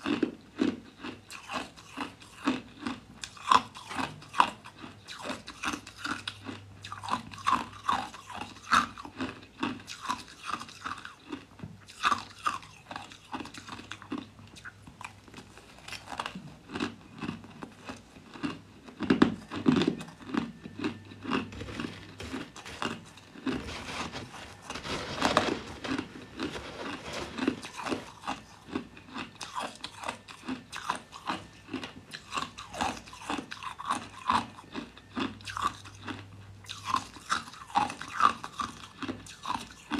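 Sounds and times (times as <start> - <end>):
crushed ice being chewed: 0.0 - 39.9.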